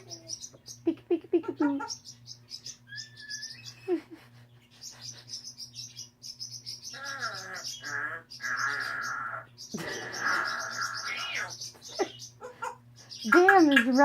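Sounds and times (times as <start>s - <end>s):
parrots chirping: 0.0s - 14.0s.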